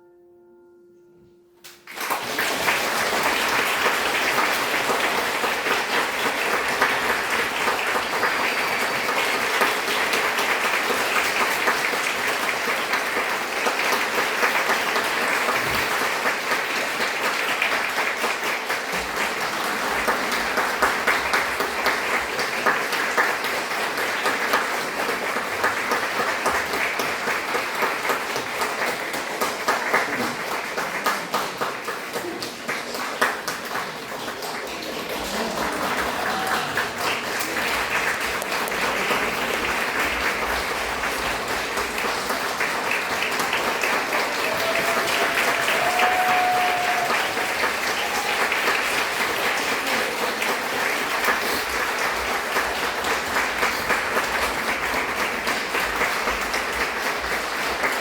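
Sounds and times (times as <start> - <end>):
audience applauding: 1.7 - 58.0.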